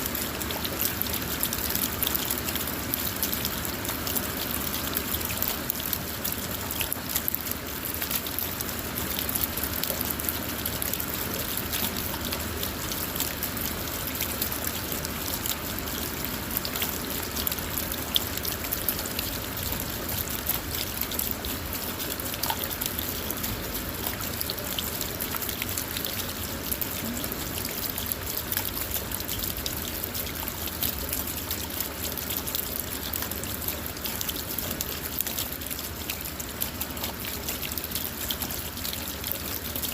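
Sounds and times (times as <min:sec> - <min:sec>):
rain falling on a car: 0:00.0 - 0:39.9.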